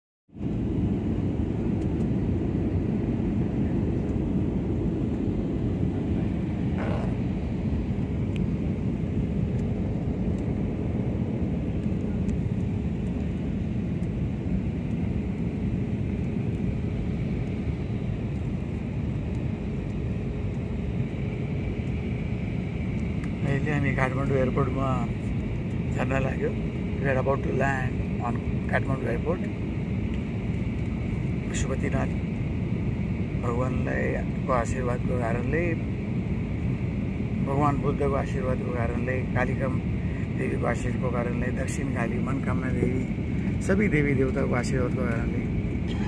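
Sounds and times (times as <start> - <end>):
jet engine and airflow rumble: 0.3 - 46.0
faint steady hum: 0.4 - 46.0.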